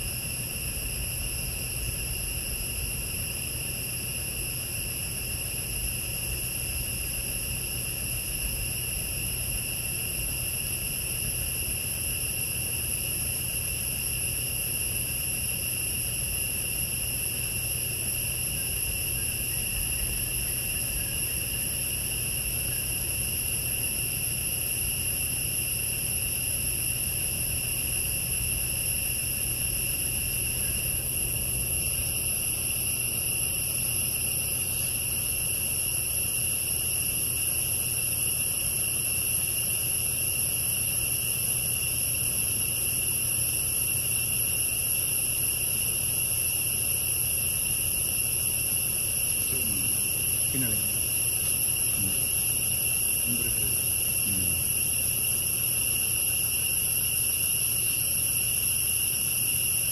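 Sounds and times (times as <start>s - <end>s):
forest insects droning: 0.0s - 59.9s.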